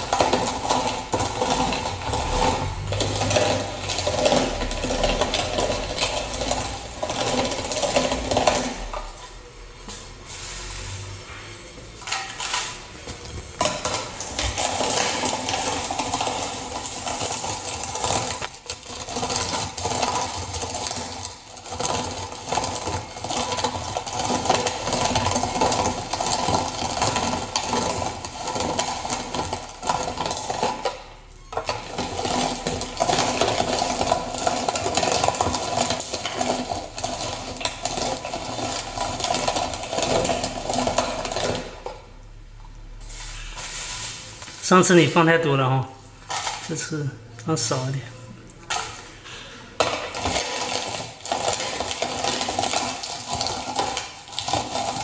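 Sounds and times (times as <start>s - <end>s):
manual meat grinder grinding: 0.0s - 10.8s, 11.8s - 55.0s.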